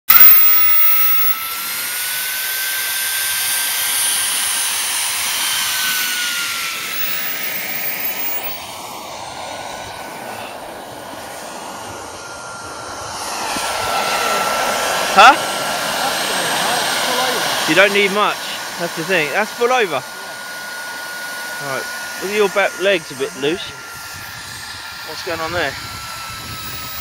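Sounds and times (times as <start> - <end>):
gas turbine whining: 0.1 - 27.0.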